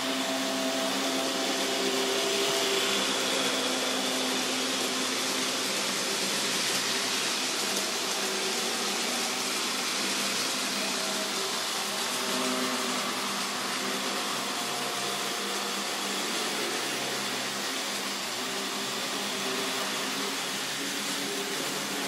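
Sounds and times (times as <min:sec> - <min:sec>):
model train motor hum: 0:00.0 - 0:22.0
wheels rushing on rails: 0:00.0 - 0:22.0.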